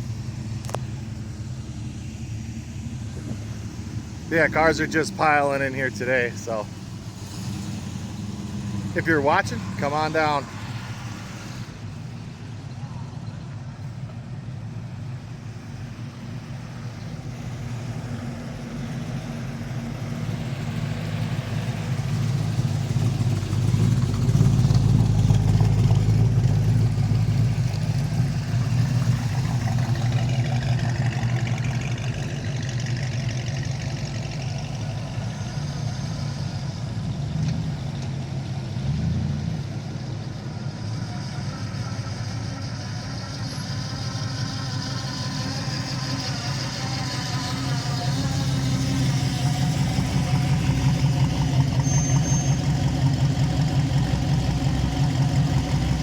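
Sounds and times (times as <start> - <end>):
cars driving past: 0.0 - 56.0.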